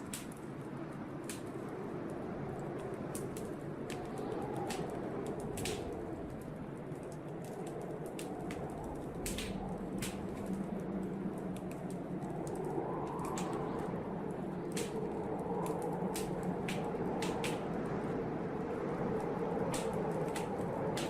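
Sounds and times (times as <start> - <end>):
blizzard wind howling: 0.0 - 21.0
wood fire crackling: 0.0 - 21.0.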